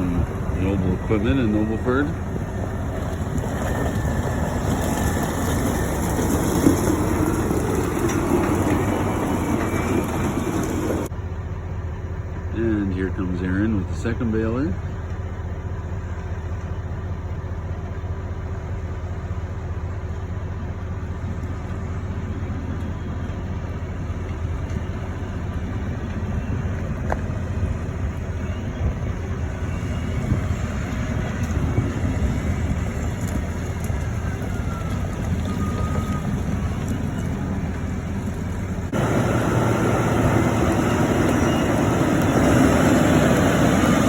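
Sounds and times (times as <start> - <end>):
heavy vehicle engine droning: 0.0 - 44.0.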